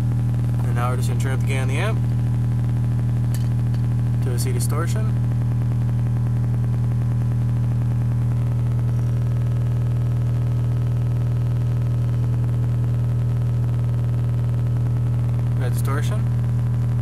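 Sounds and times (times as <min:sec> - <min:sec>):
low bass test tone: 0:00.0 - 0:17.0.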